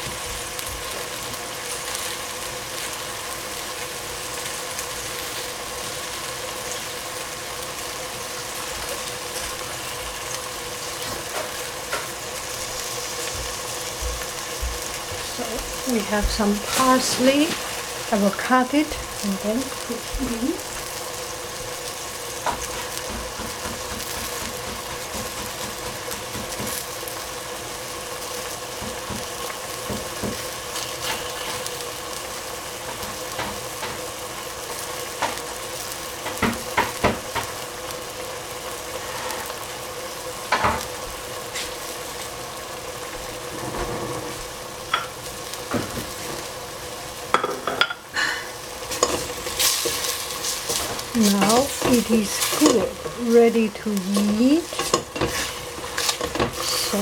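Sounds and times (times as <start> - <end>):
mushrooms sizzling in pot: 0.0 - 57.0.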